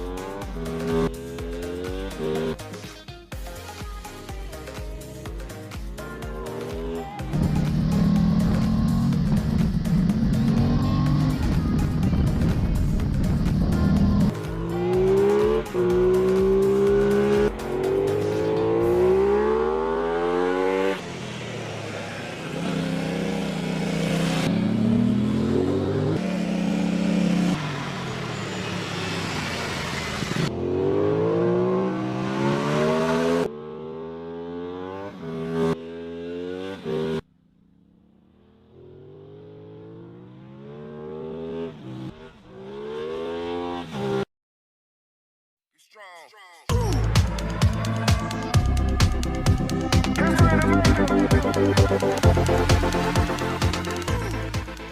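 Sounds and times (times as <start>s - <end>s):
motorcycle engine revving: 0.0s - 2.7s, 6.0s - 44.3s, 47.0s - 54.9s.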